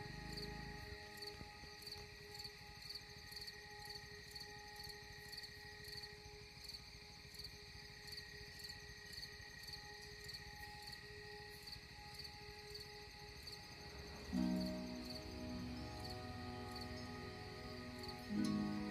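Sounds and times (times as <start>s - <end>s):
faint high chirping: 0.0s - 18.9s
soft drone music: 0.0s - 18.9s.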